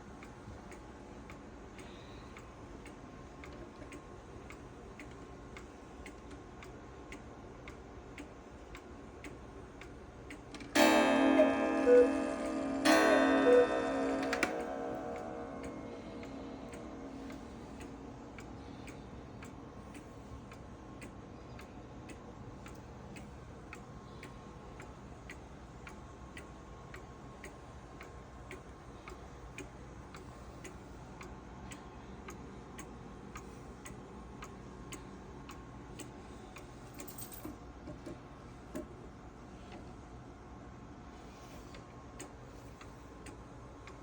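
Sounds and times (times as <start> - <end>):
clock ticking: 0.1 - 37.4.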